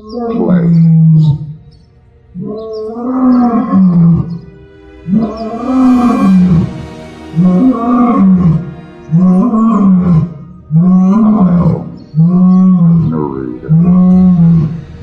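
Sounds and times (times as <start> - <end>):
lion roaring: 0.0 - 1.6, 2.3 - 4.5, 5.1 - 15.0
musical drone: 0.0 - 15.0.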